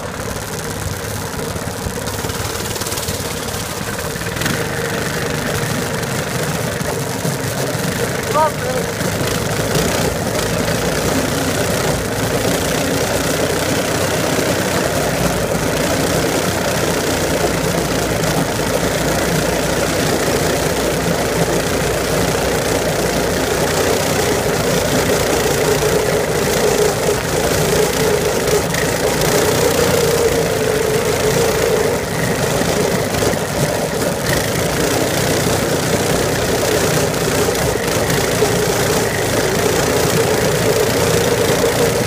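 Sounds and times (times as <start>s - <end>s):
vehicle engine rumbling: 0.0s - 42.0s.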